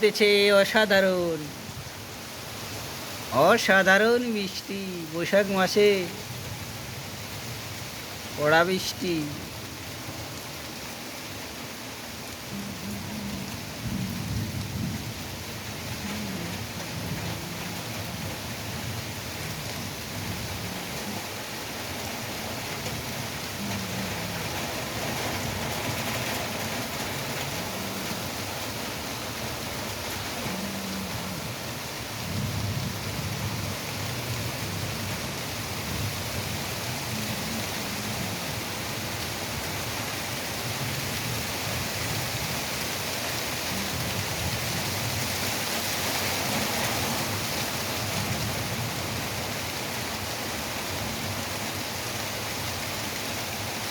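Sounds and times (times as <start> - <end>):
heavy rain on surfaces: 0.0 - 53.9.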